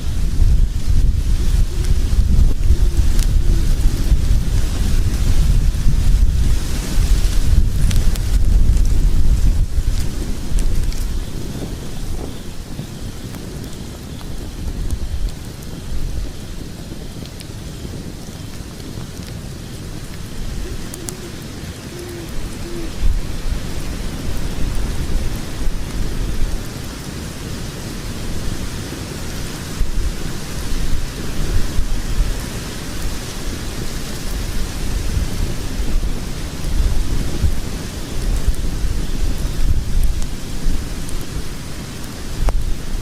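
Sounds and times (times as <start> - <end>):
roar of flames: 0.0 - 43.0
wood crackling and popping: 0.0 - 43.0.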